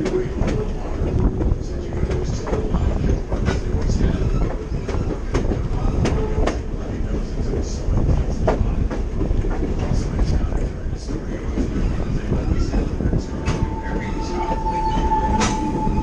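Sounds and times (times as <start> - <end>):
railroad car rumbling on track: 0.0 - 16.0.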